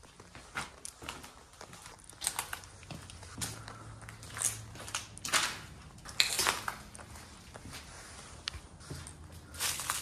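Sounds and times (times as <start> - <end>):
footsteps crunching over debris: 0.0 - 10.0.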